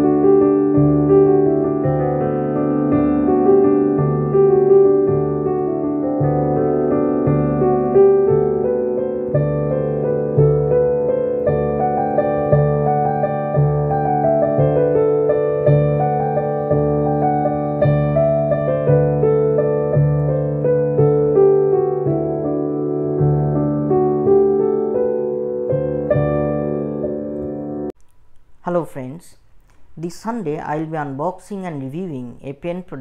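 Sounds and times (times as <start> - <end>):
piano chords: 0.0 - 28.0.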